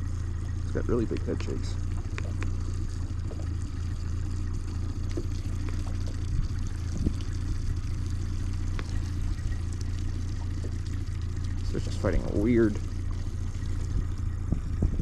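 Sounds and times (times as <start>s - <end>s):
boat motor humming: 0.0s - 15.0s
water splashing against boat: 0.0s - 15.0s.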